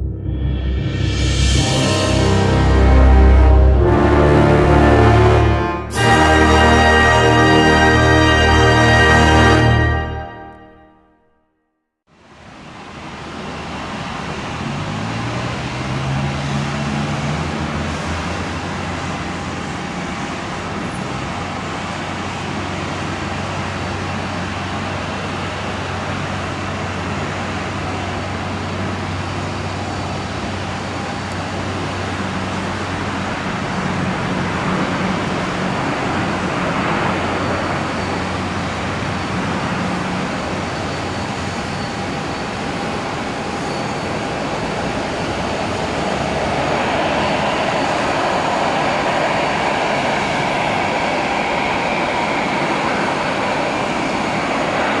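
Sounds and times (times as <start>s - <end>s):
jet engine rumble and whine: 0.0s - 2.6s, 12.2s - 55.0s.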